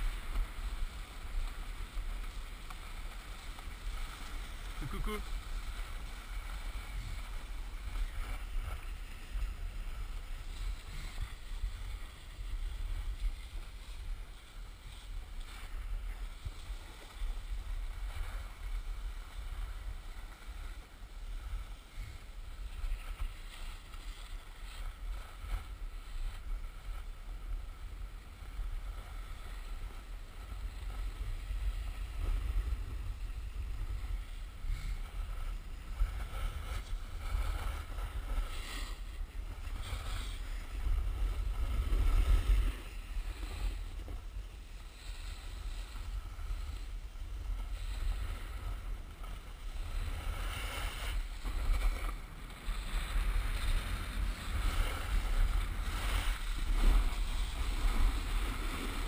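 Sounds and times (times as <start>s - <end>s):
skis sliding over snow: 0.0s - 59.0s.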